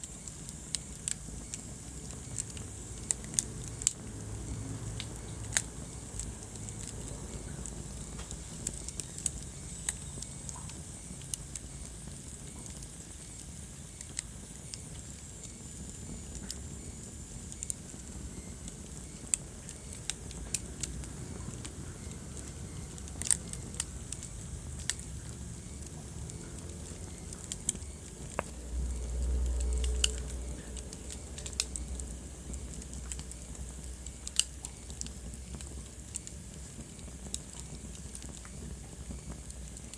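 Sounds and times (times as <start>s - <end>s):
fire sharp pops: 0.0s - 39.9s
low hiss: 0.0s - 39.9s
wood fire crackling: 0.0s - 39.9s.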